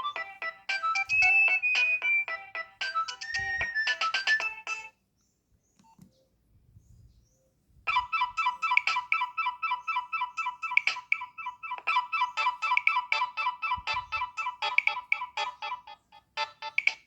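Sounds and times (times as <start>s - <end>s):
electronic ringtone melody: 0.0s - 4.9s, 7.9s - 17.0s.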